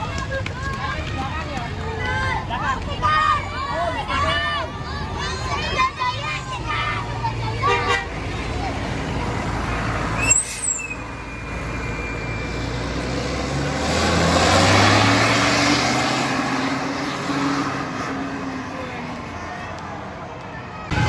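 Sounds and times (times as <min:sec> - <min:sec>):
heavy vehicle passing: 0:00.0 - 0:21.0.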